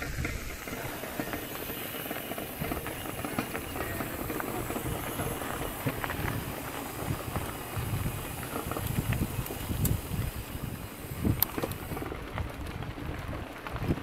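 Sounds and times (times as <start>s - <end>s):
bike clicks and rattles: 0.0s - 14.0s
bike tyres crunching on gravel: 0.0s - 14.0s
wind rumbling on microphone: 0.0s - 14.0s.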